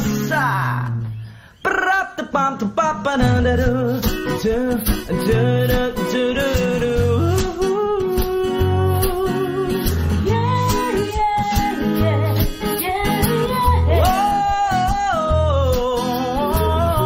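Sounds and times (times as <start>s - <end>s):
acoustic guitar pop song: 0.0s - 17.0s
person singing: 0.0s - 17.0s.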